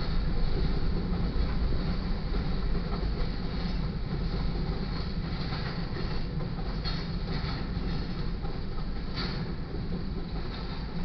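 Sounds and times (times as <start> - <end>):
freight train wheels rumbling on rails: 0.0 - 11.0.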